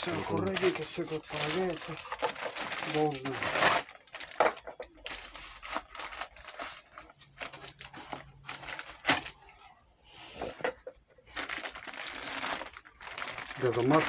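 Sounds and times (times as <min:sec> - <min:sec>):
plastic bag crinkling: 0:00.0 - 0:09.7, 0:11.2 - 0:14.0.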